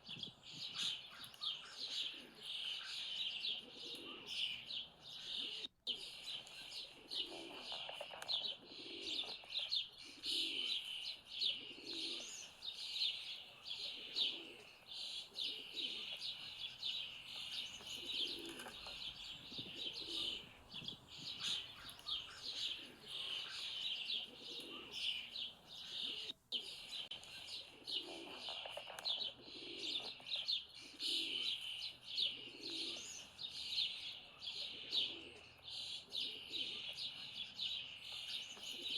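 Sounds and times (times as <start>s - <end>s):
small birds chirping: 0.0s - 38.9s
dove cooing: 0.6s - 33.4s, 34.4s - 37.1s, 38.6s - 38.9s.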